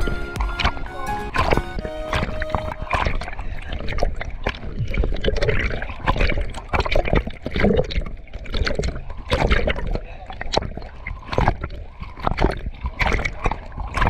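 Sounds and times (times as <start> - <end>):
river water splashing: 0.0 - 14.0.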